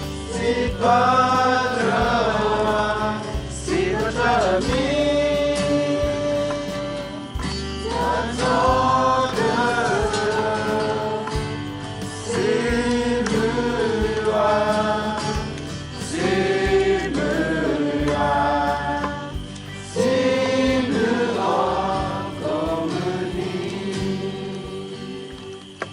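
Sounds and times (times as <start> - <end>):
group singing a hymn: 0.0 - 25.9.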